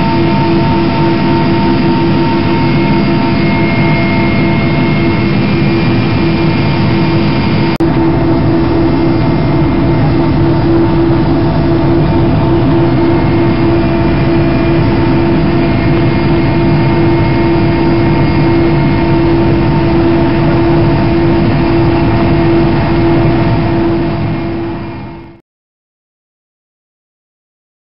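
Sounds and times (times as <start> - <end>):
helicopter running: 0.0 - 25.4.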